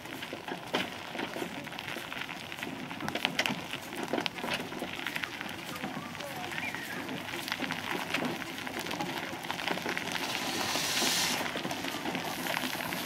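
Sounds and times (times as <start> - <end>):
steam engine iron wheels crunching gravel: 0.0 - 13.0.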